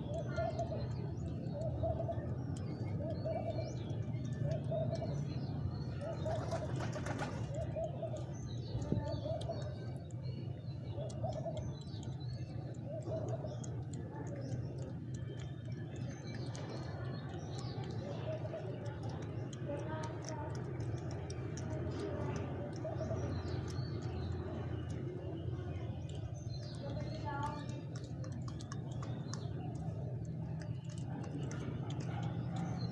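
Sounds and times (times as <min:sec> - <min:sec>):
pigeons cooing: 0:00.0 - 0:27.1
small birds chirping: 0:00.0 - 0:32.9.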